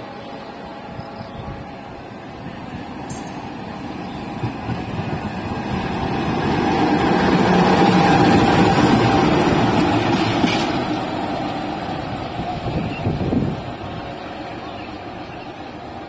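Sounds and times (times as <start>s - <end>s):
diesel locomotive engine passing: 0.0s - 16.0s.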